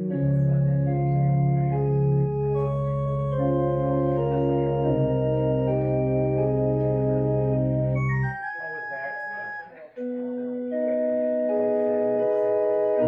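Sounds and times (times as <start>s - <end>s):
organ playing slow music: 0.0s - 13.0s.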